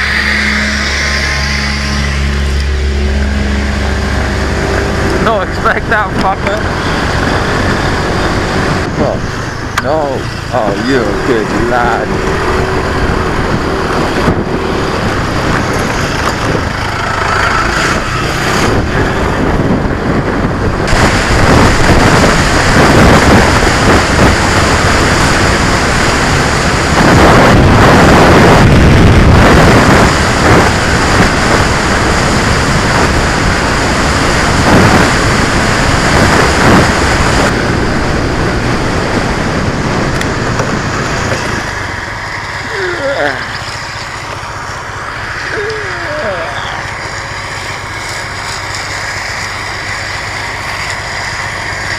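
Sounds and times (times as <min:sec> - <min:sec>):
motorcycle engine running: 0:00.0 - 0:51.9
wind rush on microphone: 0:00.0 - 0:51.9.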